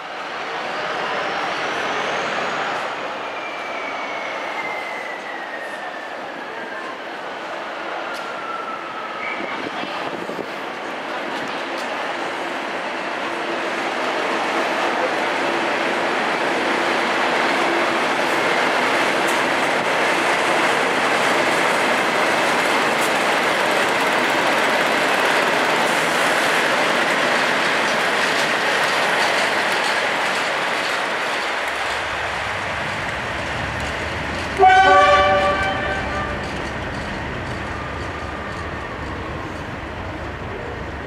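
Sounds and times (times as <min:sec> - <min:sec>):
train rolling noise: 0:00.0 - 0:41.0
diesel locomotive passing: 0:05.2 - 0:41.0.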